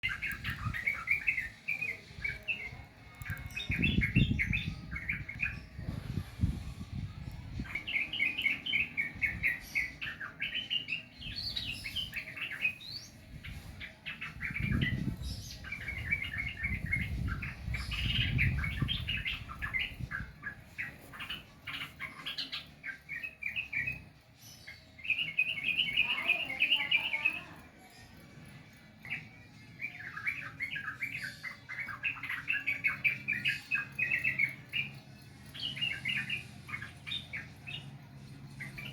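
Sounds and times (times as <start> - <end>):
bird chirping song: 0.0 - 38.9.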